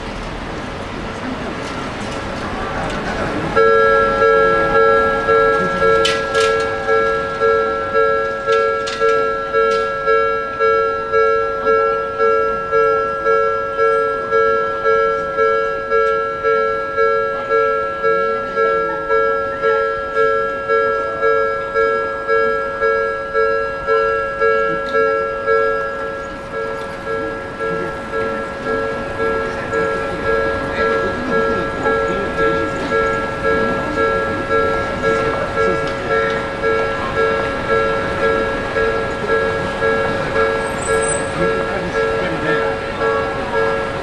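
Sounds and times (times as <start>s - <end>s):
level crossing warning bell: 1.2s - 44.0s.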